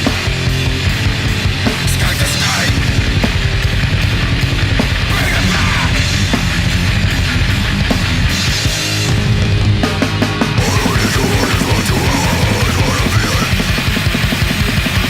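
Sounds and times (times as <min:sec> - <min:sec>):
heavy metal punk rock music: 0:00.0 - 0:15.0.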